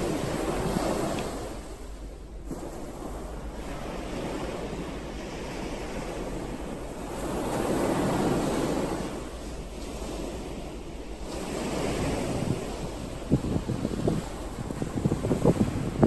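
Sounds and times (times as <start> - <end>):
ocean waves washing ashore: 0.0 - 16.0
wind noise on microphone: 0.0 - 16.0.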